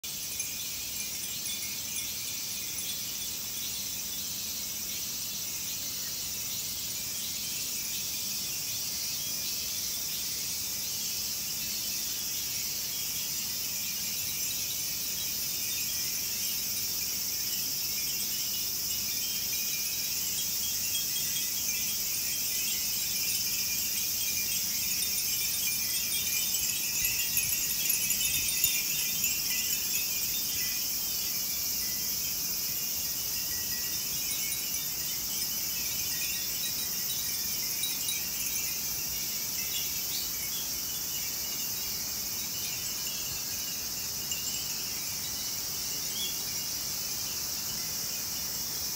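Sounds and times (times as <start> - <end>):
glass wind bells tinkling: 0.0 - 48.9
high insect drone: 0.0 - 48.9.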